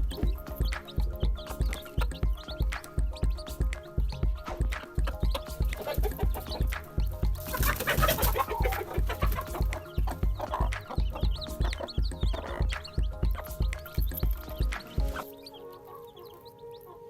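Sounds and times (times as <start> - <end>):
music with steady beat: 0.0 - 16.6
chickens clucking: 0.0 - 17.0.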